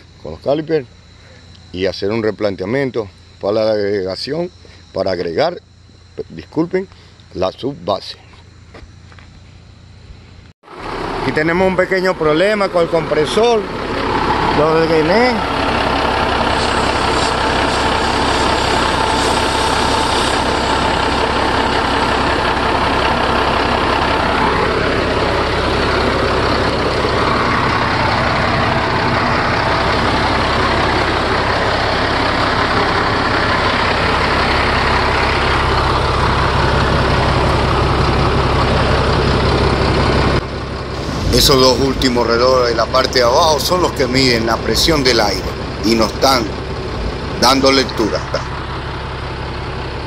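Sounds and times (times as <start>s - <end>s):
diesel engine idling: 0.0s - 5.0s, 8.4s - 50.0s.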